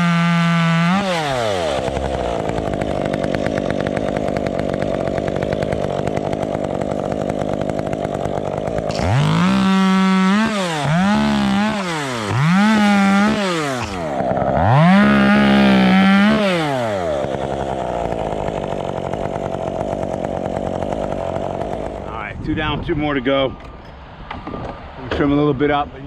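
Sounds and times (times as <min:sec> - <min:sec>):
chainsaw revving and idling: 0:00.0 - 0:22.3.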